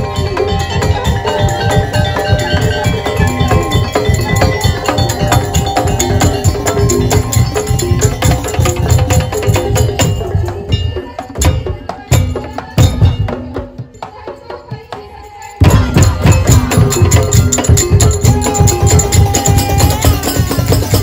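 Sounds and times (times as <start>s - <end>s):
fast drum beats: 0.0s - 21.0s
percussion ensemble playing: 0.0s - 21.0s
ringing tuned metal percussion: 0.0s - 21.0s.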